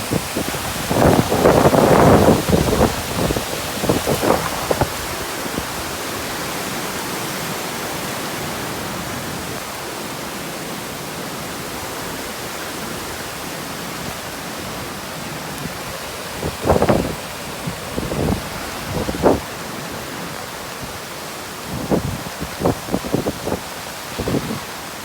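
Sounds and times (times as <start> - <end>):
heavy rain hissing: 0.0 - 25.0.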